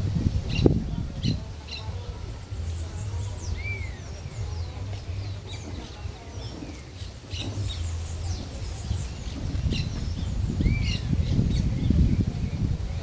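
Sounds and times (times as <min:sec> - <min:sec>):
low rumble: 0:00.0 - 0:13.0
birds chirping and calling: 0:00.5 - 0:13.0.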